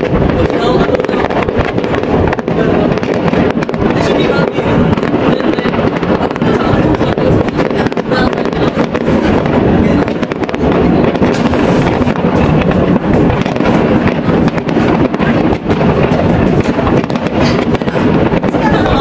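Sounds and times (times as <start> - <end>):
fireworks bursts crackling: 0.0 - 19.0.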